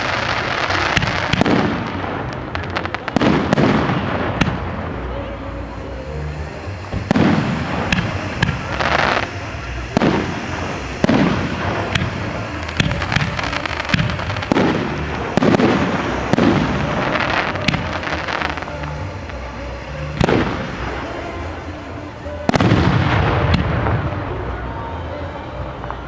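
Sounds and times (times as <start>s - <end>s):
fireworks bursts with booming echoes: 0.0s - 26.0s.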